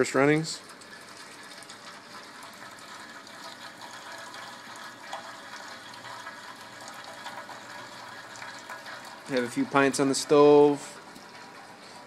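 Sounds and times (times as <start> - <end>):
liquid trickling into a kettle: 0.0 - 12.0.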